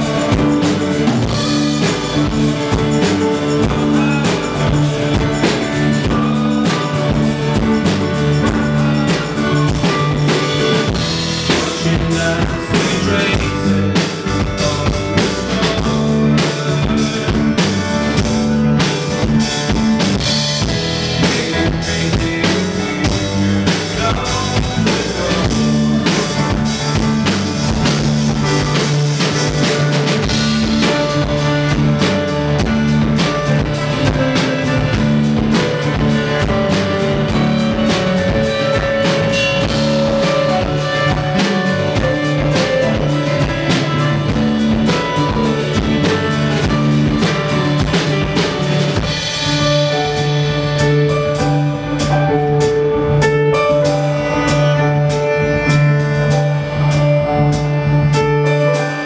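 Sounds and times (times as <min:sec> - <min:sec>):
drum kit beat: 0:00.0 - 0:59.0
keyboard chords: 0:00.0 - 0:59.0.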